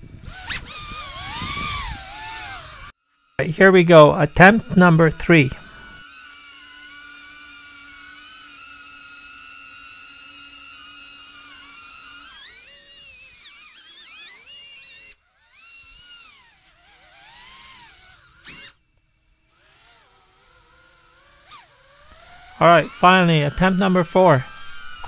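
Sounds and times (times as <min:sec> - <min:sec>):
drone propellers whining: 0:00.0 - 0:15.0, 0:15.8 - 0:25.0.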